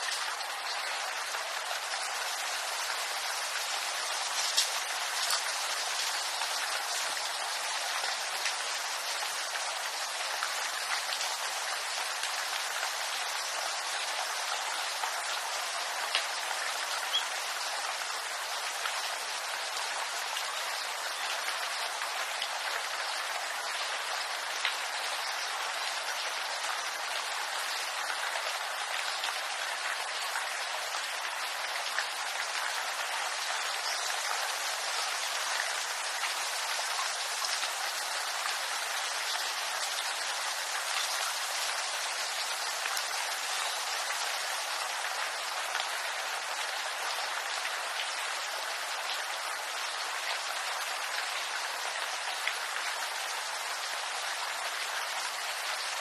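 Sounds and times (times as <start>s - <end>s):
rain on leaves: 0.0s - 56.0s.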